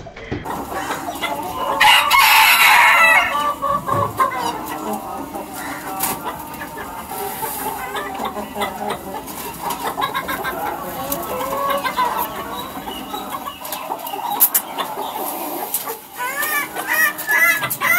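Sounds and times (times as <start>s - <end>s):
chickens clucking: 0.0s - 17.9s.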